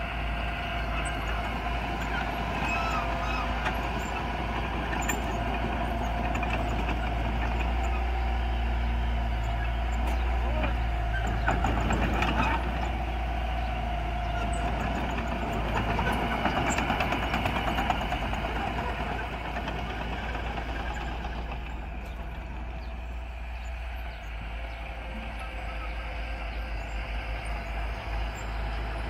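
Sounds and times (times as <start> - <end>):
bulldozer diesel engine under load: 0.0 - 29.0
steel tracks clanking: 0.0 - 29.0.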